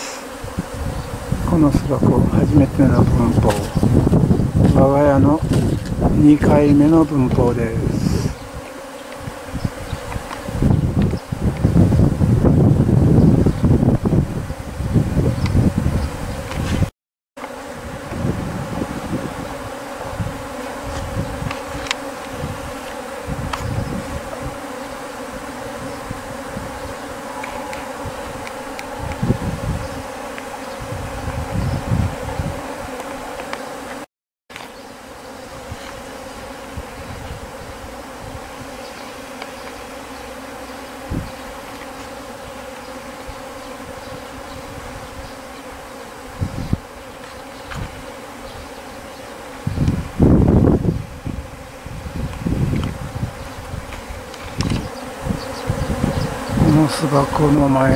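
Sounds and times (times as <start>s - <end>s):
bee swarm humming: 0.0s - 57.9s.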